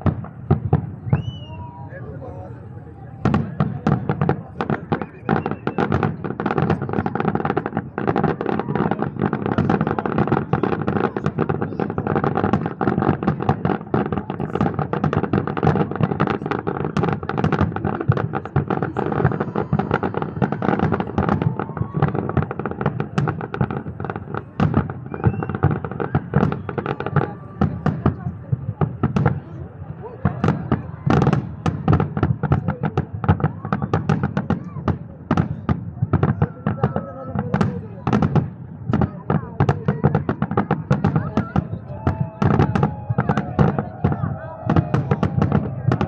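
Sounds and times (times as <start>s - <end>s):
fireworks bangs and crackles: 0.0s - 46.0s.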